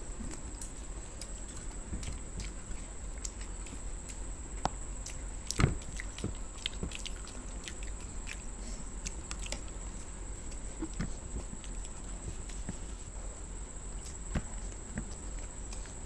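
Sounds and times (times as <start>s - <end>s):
people chewing toast: 0.0s - 16.0s.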